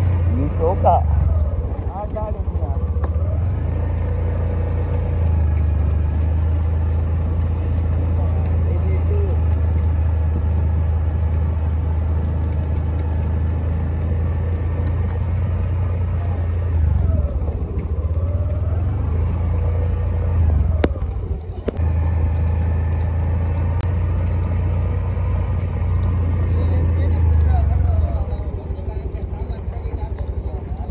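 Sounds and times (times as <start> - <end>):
motorcycle engine rumbling: 0.0 - 30.9.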